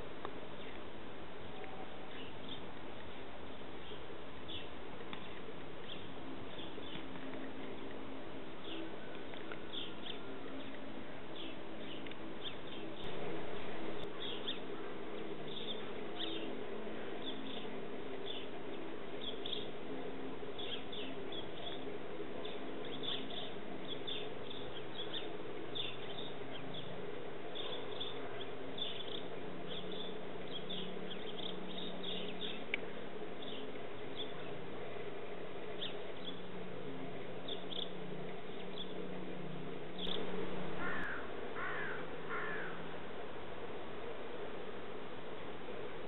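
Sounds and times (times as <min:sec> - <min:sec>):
steady low hum: 0:00.0 - 0:46.0
small birds chirping: 0:01.5 - 0:08.0, 0:08.6 - 0:19.8, 0:20.6 - 0:34.6, 0:35.7 - 0:36.5, 0:37.4 - 0:39.0, 0:39.9 - 0:42.8.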